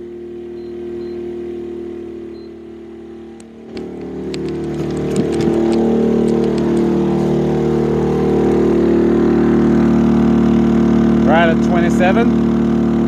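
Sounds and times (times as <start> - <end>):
generator engine speeding up: 0.0 - 13.0.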